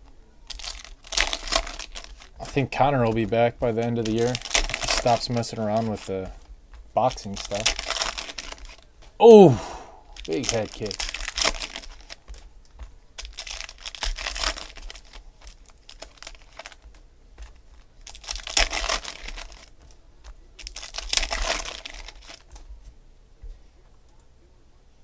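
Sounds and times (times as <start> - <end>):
cards clicking and slapping: 0.5 - 9.2, 10.2 - 22.7
foil wrappers crinkling and tearing: 0.5 - 9.2, 10.1 - 22.6.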